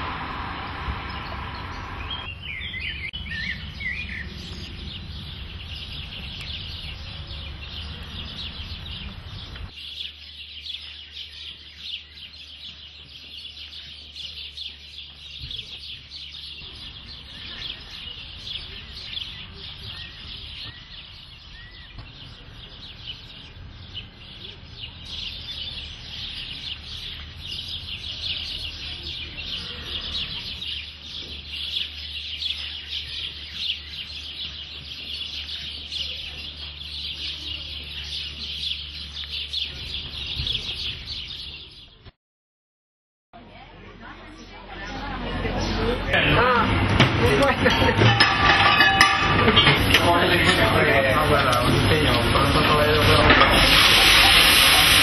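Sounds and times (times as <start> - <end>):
small birds chirping: 0.0 - 42.1, 43.4 - 47.9.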